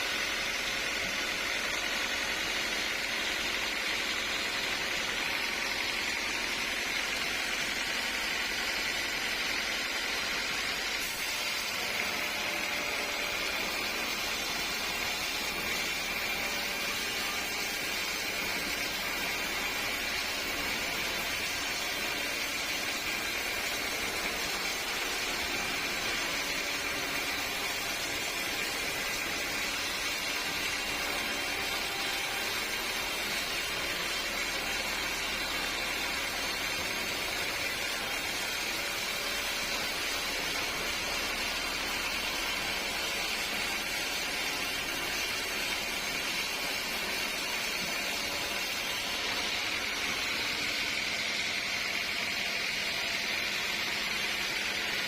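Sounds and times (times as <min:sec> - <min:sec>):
sawmill machinery whirring: 0:00.0 - 0:55.0.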